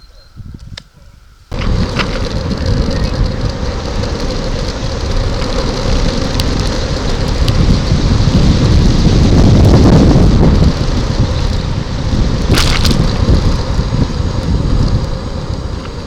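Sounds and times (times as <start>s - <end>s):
wind rushing over microphone: 0.3s - 16.0s.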